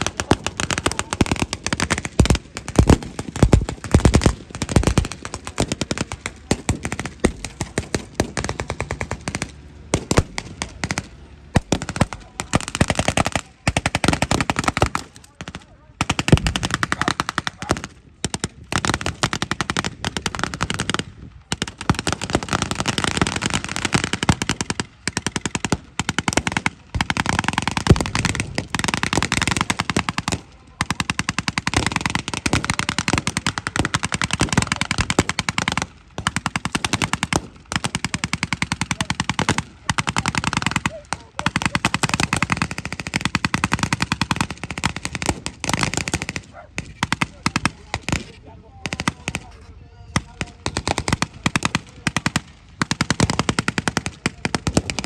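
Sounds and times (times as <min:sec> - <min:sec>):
machine guns firing bursts: 0:00.0 - 0:55.0.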